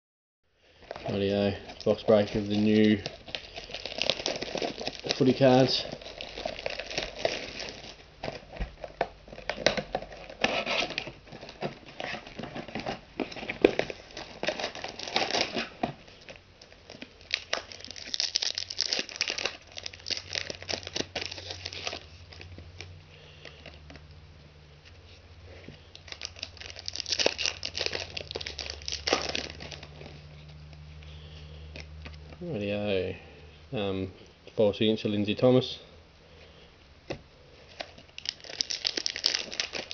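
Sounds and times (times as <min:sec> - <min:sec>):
plastic and foil wrapping crinkling: 0:00.6 - 0:24.0, 0:24.8 - 0:32.5, 0:37.5 - 0:39.9.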